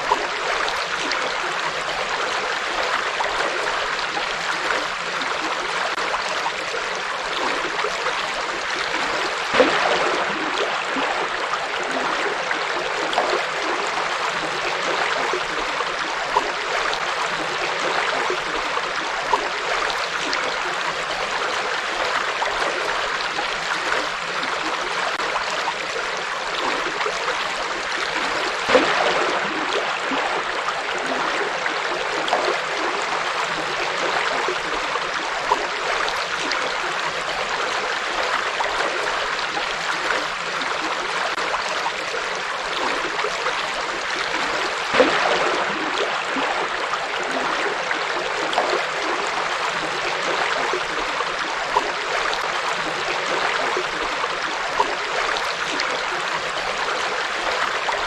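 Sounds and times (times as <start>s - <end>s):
river water flowing: 0.0s - 58.0s
water splashes: 0.0s - 58.0s.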